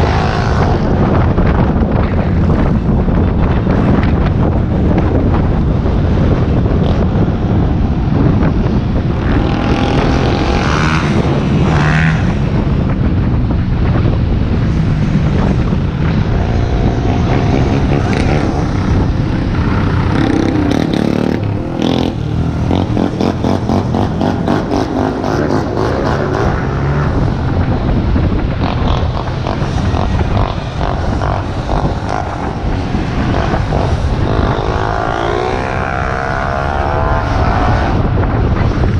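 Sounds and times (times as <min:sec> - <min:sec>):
deep steady rumble: 0:00.0 - 0:38.9
street traffic: 0:00.0 - 0:38.9
wind rushing over microphone: 0:00.0 - 0:38.9.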